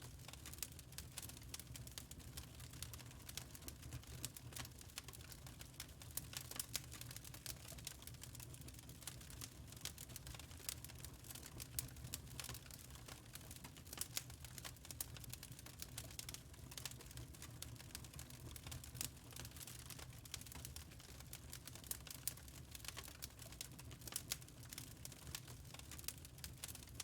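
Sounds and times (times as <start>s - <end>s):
campfire crackling and popping: 0.1s - 27.0s.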